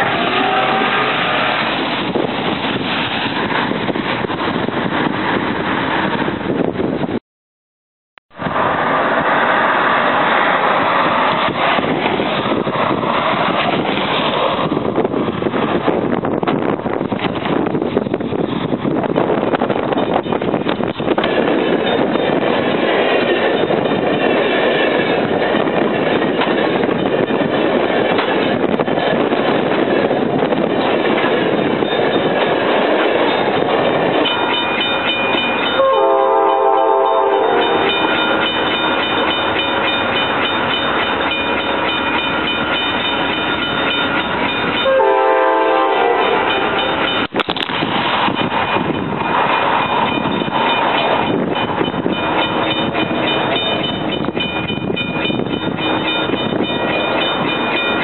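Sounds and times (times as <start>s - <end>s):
train wheels rushing on rails: 0.0s - 7.2s, 8.4s - 58.0s.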